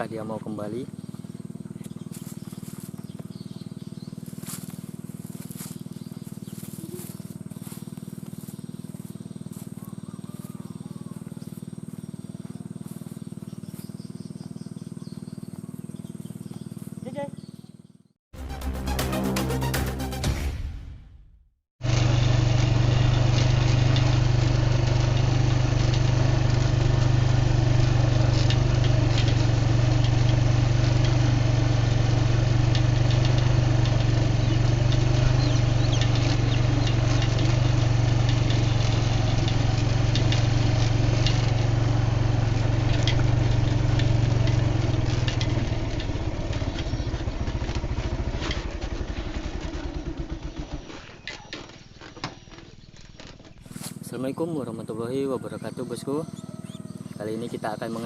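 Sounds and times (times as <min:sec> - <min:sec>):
small engine idling: 0:00.0 - 0:18.6, 0:21.8 - 0:58.0.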